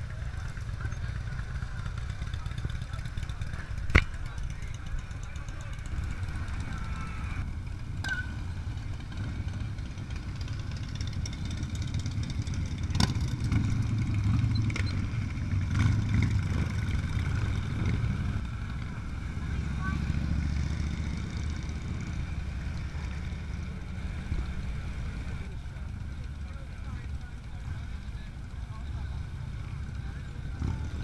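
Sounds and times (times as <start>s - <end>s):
motorcycles rumbling past: 0.0s - 31.0s.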